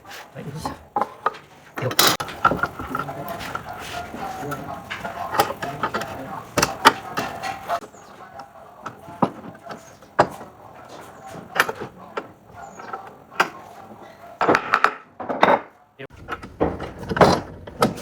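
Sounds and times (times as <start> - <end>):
wood knocking and clattering: 0.0 - 18.0.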